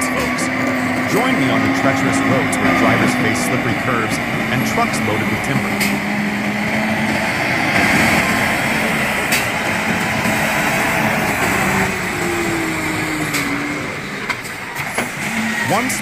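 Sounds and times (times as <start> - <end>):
truck diesel engine running: 0.0 - 16.0
tyres on gravel road: 0.0 - 16.0.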